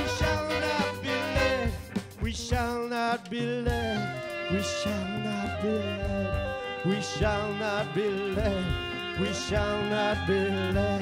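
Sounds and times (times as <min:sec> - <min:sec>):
saxophones: 0:00.0 - 0:02.3, 0:03.4 - 0:11.0
drums: 0:00.0 - 0:11.0
electric guitar: 0:00.0 - 0:11.0
upright bass: 0:00.0 - 0:11.0.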